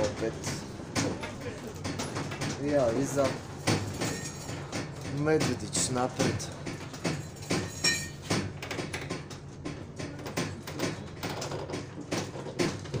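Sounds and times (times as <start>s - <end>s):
cargo rattling and knocking: 0.0s - 13.0s.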